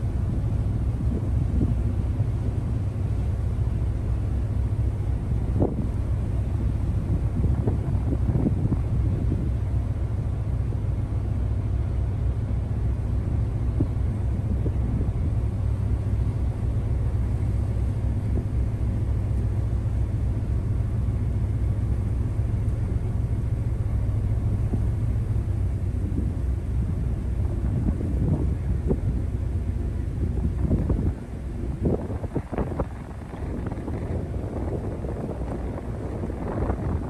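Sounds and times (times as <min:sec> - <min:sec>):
ferry engine drone: 0:00.0 - 0:37.0.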